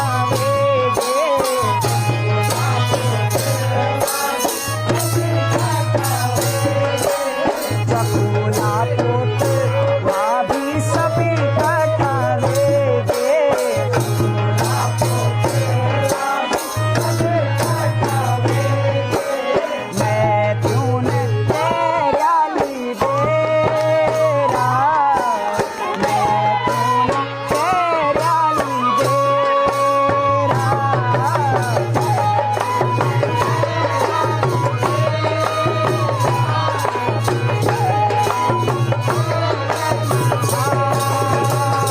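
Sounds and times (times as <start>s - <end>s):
hand drum percussion: 0.0s - 41.9s.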